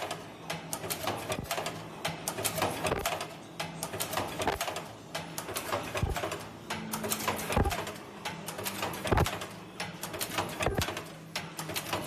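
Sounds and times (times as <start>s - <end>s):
welding machine clicking and clatter: 0.0s - 12.0s.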